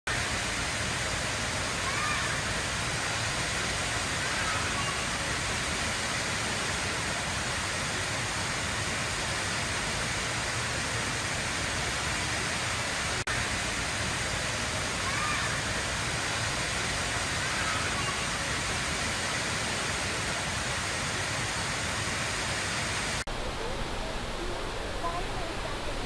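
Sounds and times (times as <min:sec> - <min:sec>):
indoor waterfall rushing: 0:00.1 - 0:26.0.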